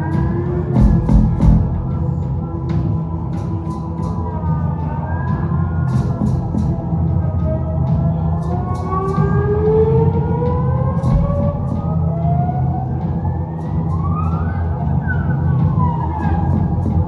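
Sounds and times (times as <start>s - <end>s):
bass drone: 0.0s - 17.0s
wailing pitch glides: 0.0s - 17.0s.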